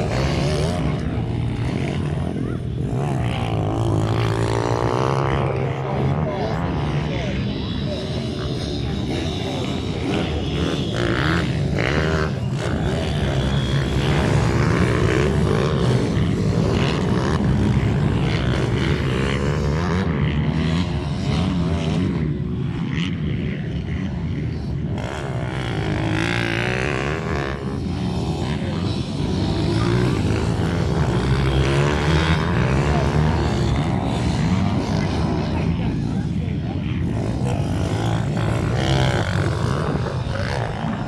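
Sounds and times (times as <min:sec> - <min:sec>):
minibike engines revving: 0:00.0 - 0:41.0.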